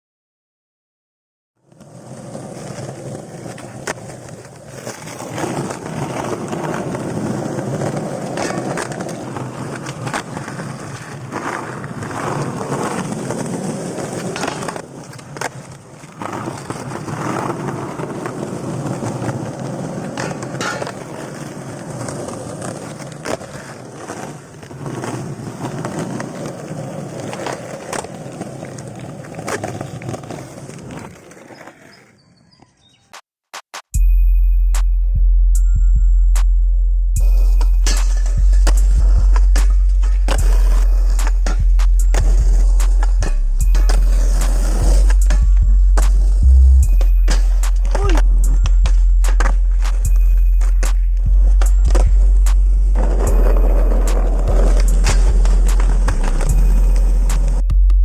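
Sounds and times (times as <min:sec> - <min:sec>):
skateboard clacks: 0:01.6 - 0:32.2, 0:37.4 - 0:58.0
skateboard wheels rolling on pavement: 0:01.6 - 0:33.2, 0:37.2 - 0:58.0.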